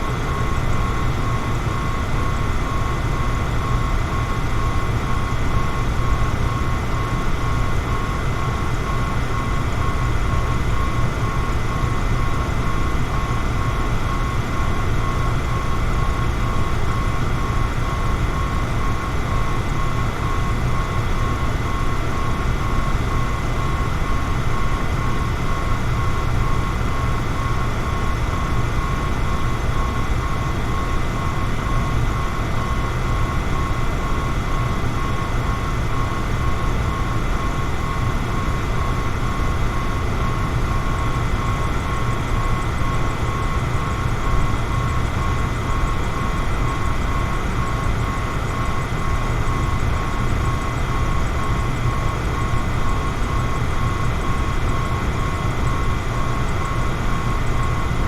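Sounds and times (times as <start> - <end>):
electric fan running: 0.0 - 58.0
faint high whine: 0.0 - 58.0.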